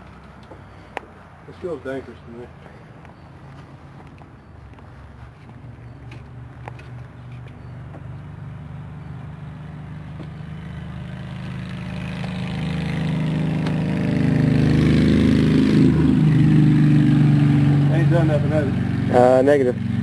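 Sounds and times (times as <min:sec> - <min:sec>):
engine running: 0:02.6 - 0:20.0.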